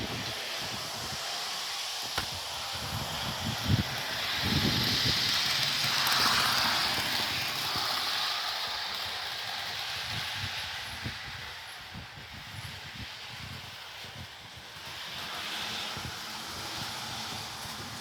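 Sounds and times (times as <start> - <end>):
light rail clatter: 0.0 - 18.0
model train motor whir: 0.0 - 18.0.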